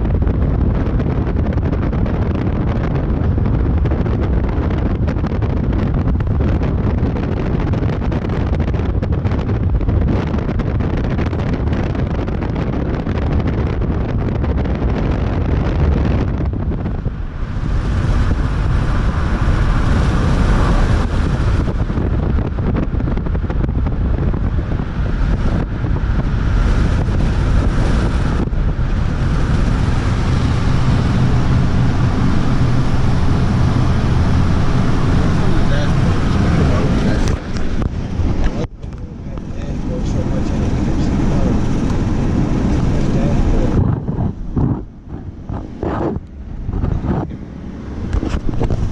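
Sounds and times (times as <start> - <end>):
steady low rumble: 0.0 - 48.9
wind buffeting microphone: 0.0 - 48.9.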